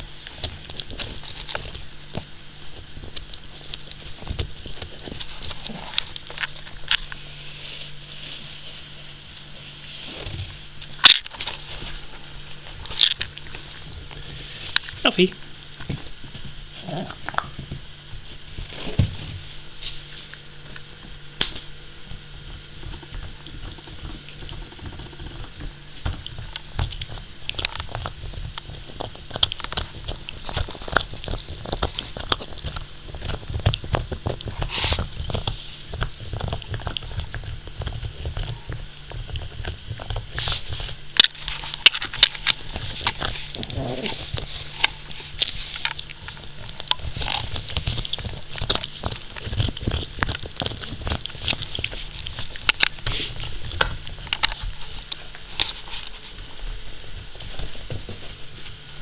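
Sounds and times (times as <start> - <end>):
dog gnawing antler: 0.0 - 59.0.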